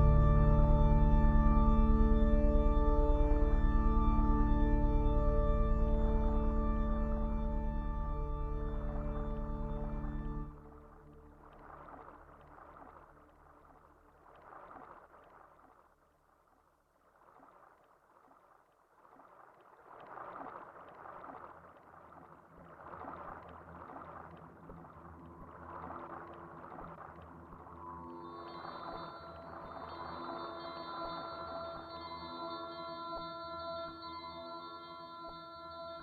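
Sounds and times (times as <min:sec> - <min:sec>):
faint low drone: 0:00.0 - 0:15.8, 0:20.1 - 0:36.0
crackly water-like synth noise: 0:00.0 - 0:36.0.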